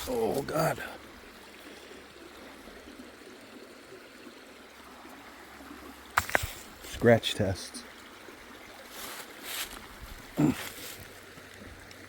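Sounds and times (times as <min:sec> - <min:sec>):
creek water trickling: 0:00.0 - 0:12.0.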